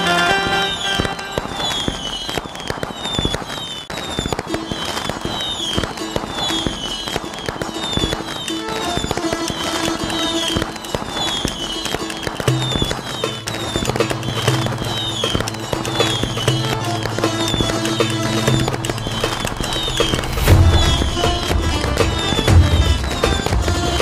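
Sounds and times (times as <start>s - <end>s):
high falling whistles: 0.0s - 23.6s
fireworks bursting and crackling: 0.0s - 24.0s.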